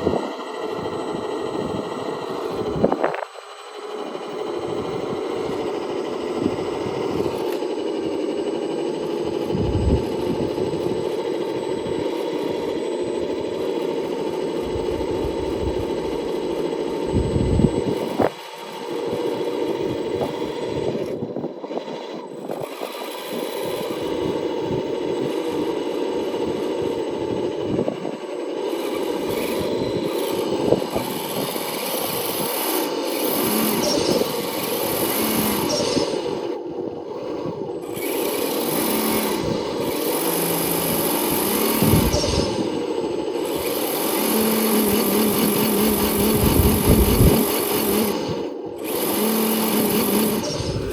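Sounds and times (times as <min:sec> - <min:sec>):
electric motor whining: 0:00.0 - 0:50.9.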